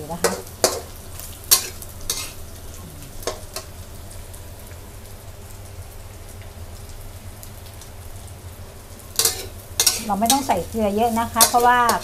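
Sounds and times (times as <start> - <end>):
pork frying in a wok: 0.0 - 12.0.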